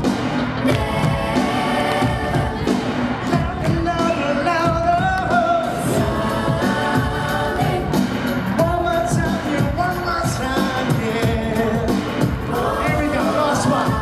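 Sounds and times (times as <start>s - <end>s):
pop backing music with drum beat: 0.0s - 14.0s.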